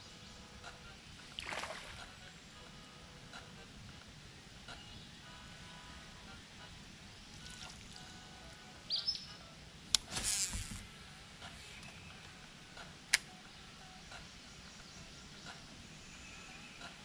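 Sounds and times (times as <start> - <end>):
river ambience: 0.3 - 17.0.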